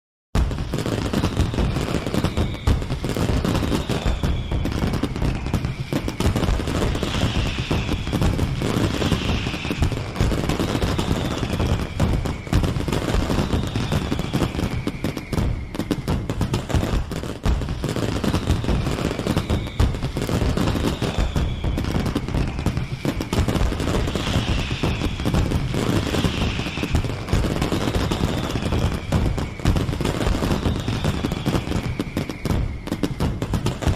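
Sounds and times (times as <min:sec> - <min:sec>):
fireworks bangs and crackling: 0:00.4 - 0:33.9
falling whistles: 0:00.5 - 0:33.9.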